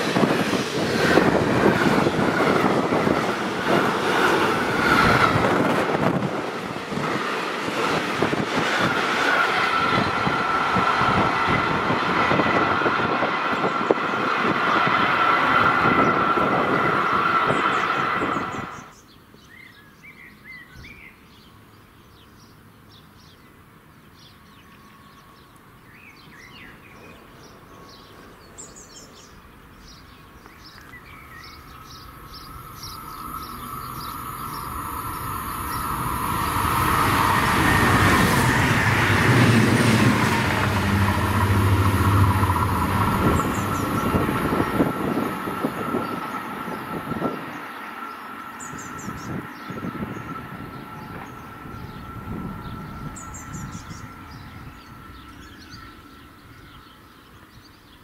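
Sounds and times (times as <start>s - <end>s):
train wheels rumbling on rail: 0.0s - 19.1s, 29.2s - 57.6s
birds chirping: 0.4s - 58.0s.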